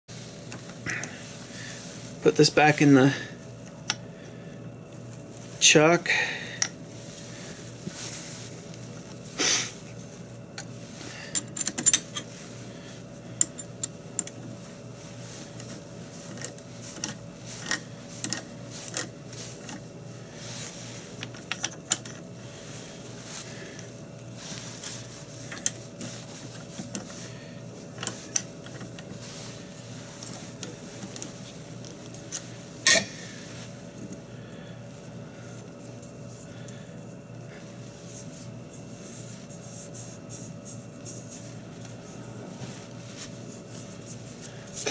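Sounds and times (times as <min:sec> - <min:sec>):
faint steady hum: 0:00.1 - 0:44.9.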